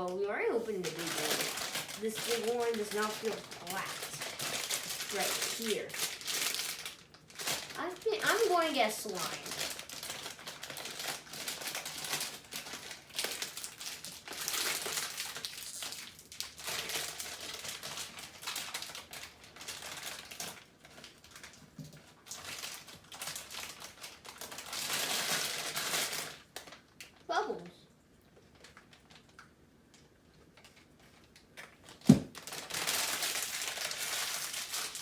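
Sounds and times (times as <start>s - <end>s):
packaging crinkling and rustling: 0.0s - 27.3s, 28.3s - 35.0s.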